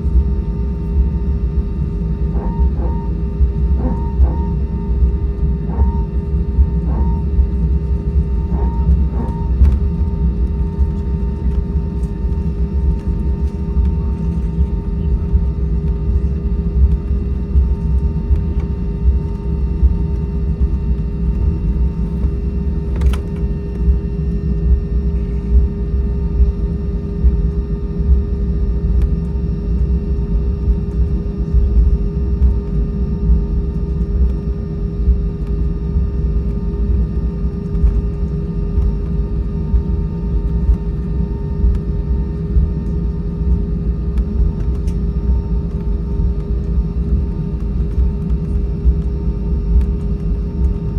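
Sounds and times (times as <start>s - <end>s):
aircraft cabin engine hum: 0.0s - 50.9s.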